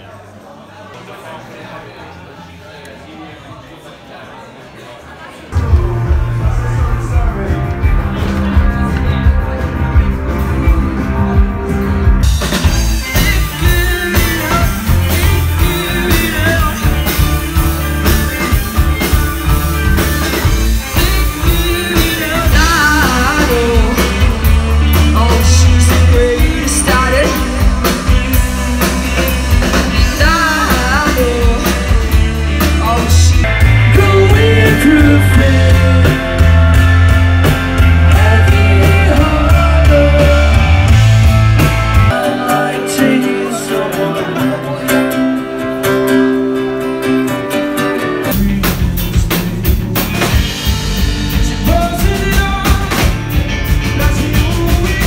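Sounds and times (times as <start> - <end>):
rock band playing live: 5.5 - 55.0.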